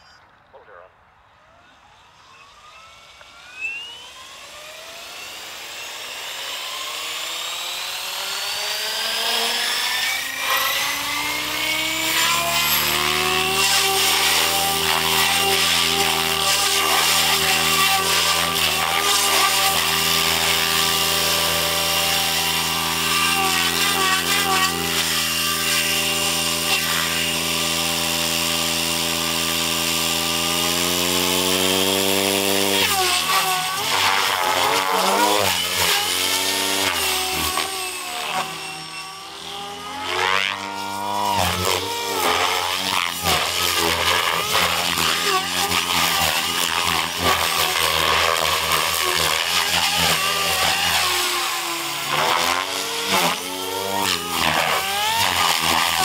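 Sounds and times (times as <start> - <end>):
rc helicopter rotor and motor: 1.8 - 56.0.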